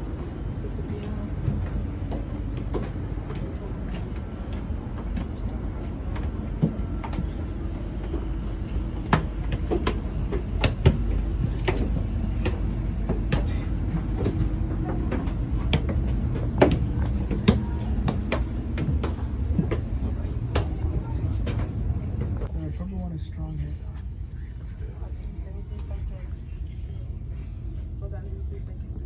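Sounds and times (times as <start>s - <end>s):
train carriage low hum: 0.0s - 29.0s.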